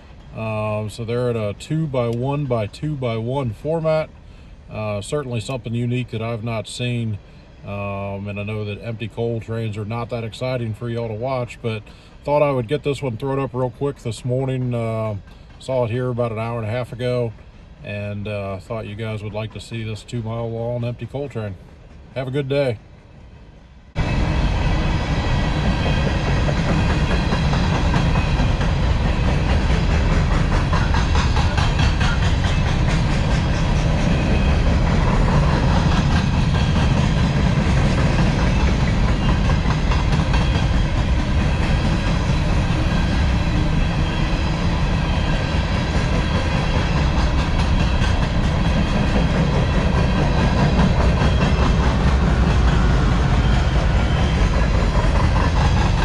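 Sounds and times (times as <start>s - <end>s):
train wheels clicking over rail joints: 0.0s - 22.7s, 24.0s - 56.0s
low train rumble: 0.0s - 56.0s.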